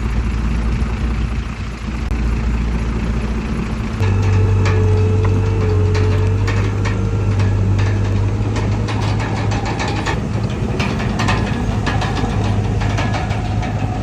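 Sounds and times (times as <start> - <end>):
bulldozer diesel engine running: 0.0 - 14.0
faint whine: 0.0 - 14.0
clicks and clanks: 2.2 - 14.0.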